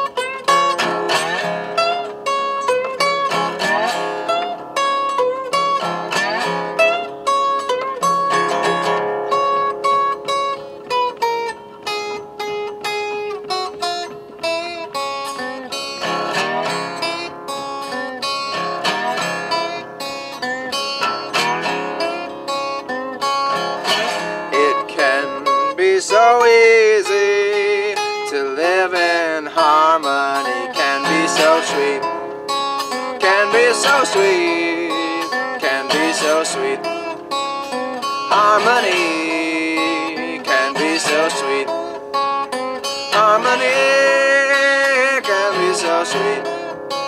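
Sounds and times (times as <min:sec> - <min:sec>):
fingerstyle blues guitar: 0:00.0 - 0:47.0.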